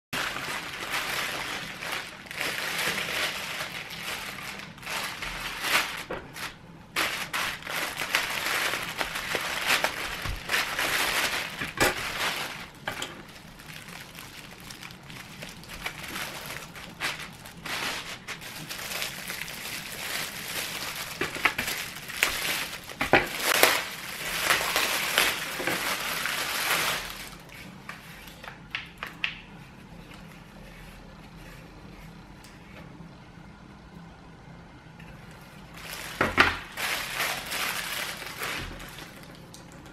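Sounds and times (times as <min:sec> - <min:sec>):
plastic wrapping crinkling: 0:00.2 - 0:29.4, 0:35.6 - 0:39.9.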